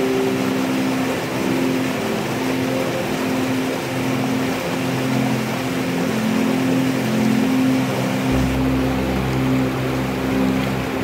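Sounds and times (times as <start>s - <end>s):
soft background music: 0.0s - 11.0s
water rushing over rocks: 0.0s - 11.0s.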